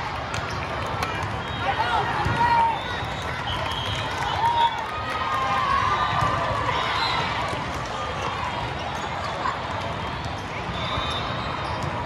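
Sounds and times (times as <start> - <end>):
chatter of people: 0.0 - 12.0.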